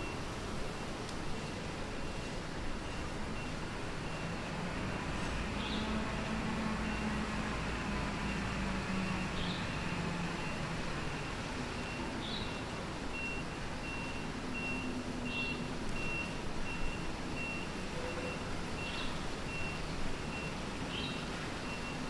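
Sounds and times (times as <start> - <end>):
street traffic hum: 0.0 - 22.0.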